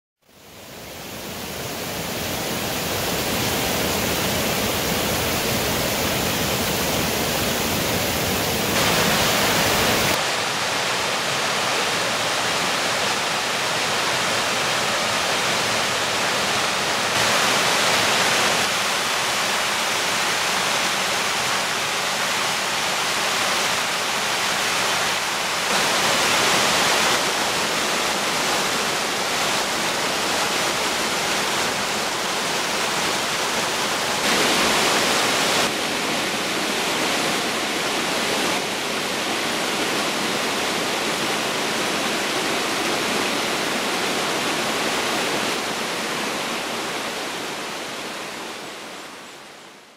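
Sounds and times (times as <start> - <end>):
creek rushing over rocks: 0.4 - 49.2.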